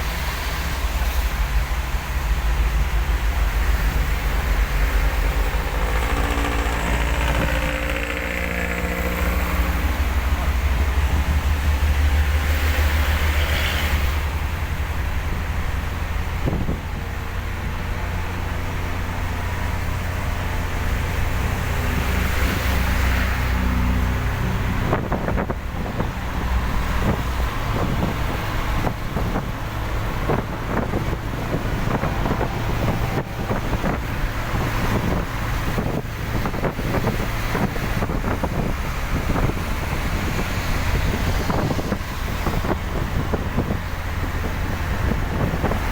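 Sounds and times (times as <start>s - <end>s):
vehicle on a wet road: 0.0s - 45.9s.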